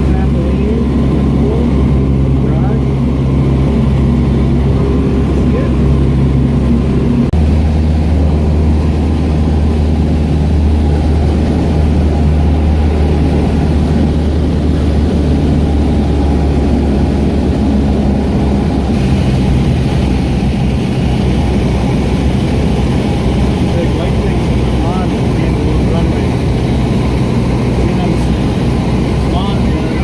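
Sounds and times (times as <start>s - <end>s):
small airplane engine droning: 0.0s - 30.0s.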